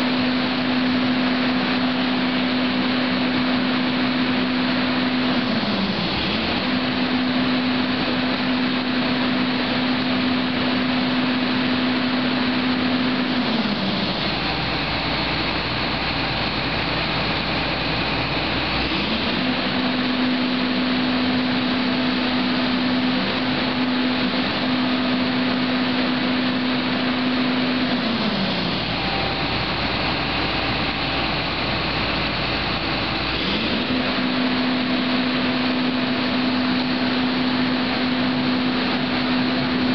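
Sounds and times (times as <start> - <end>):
steady machine drone: 0.0 - 39.9.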